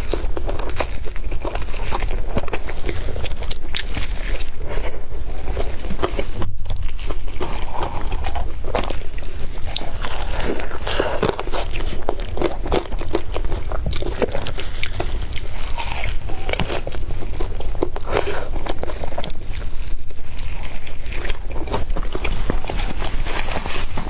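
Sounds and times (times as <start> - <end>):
chewing food close up: 0.0 - 24.0.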